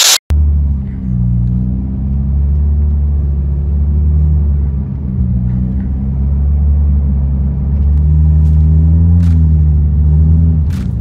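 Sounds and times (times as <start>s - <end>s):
car engine drone from inside: 0.0s - 11.0s.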